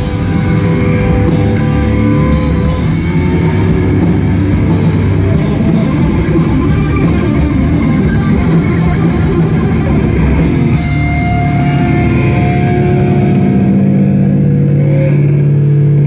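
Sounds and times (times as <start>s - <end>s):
drum kit: 0.0s - 13.8s
distorted electric guitars: 0.0s - 16.0s.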